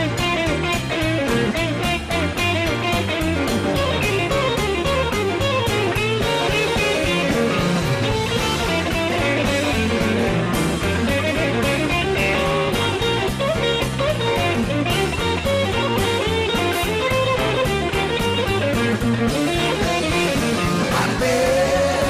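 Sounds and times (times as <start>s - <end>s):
blues band playing: 0.0s - 22.0s
electric guitar: 0.0s - 22.0s.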